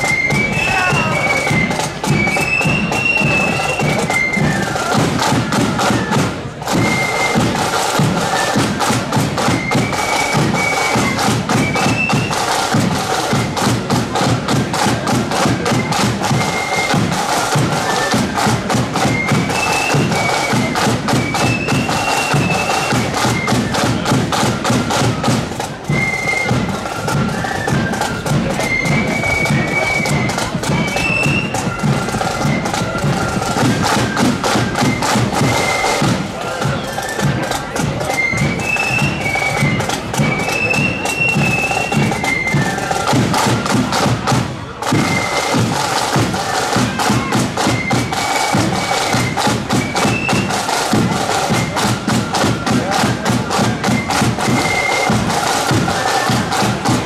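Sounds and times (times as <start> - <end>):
bass and side drums beating: 0.0 - 57.0
marching flute band playing: 0.0 - 57.0.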